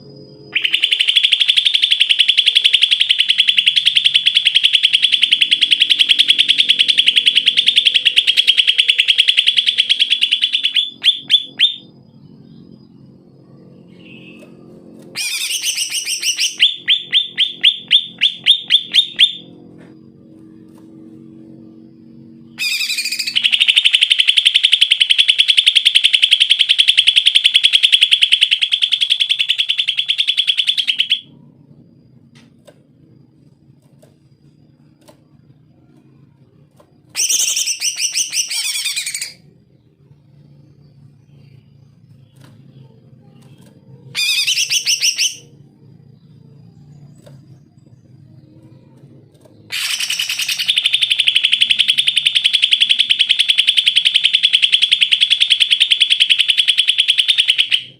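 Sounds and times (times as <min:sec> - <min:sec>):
bird singing rattling trills: 0:00.0 - 0:19.6, 0:20.2 - 0:32.6, 0:33.2 - 0:57.9
faint low hum: 0:00.0 - 0:57.9.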